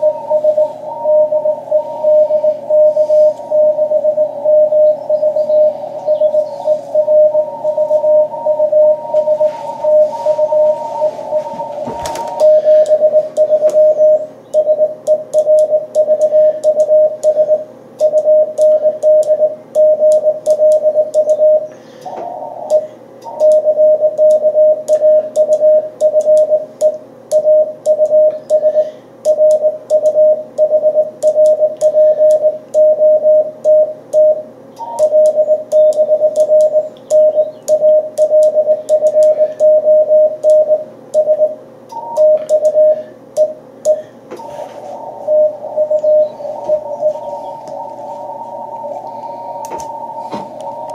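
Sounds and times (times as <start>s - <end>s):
higher-pitched tone: 0.0s - 26.6s, 34.2s - 50.9s
morse code tone: 0.0s - 50.9s.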